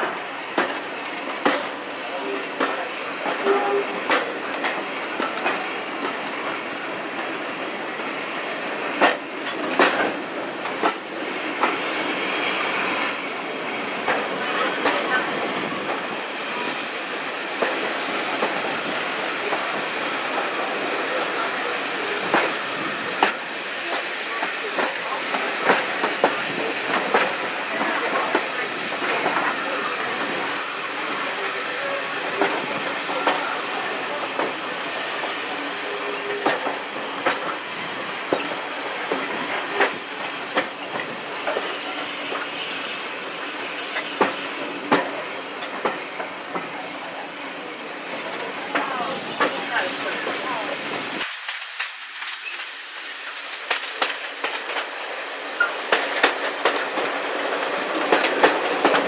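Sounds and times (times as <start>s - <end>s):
train rumbling along rails: 0.0s - 59.0s.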